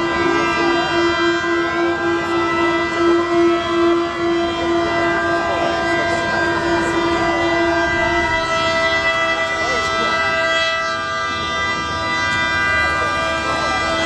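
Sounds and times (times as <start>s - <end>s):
higher-pitched ship horns: 0.0s - 14.0s
low ship horn: 0.0s - 14.0s.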